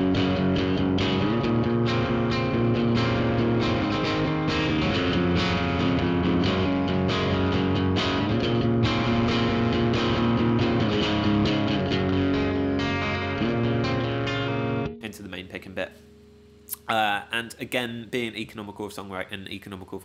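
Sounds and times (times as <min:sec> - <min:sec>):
electric guitar strumming chords: 0:00.0 - 0:17.1.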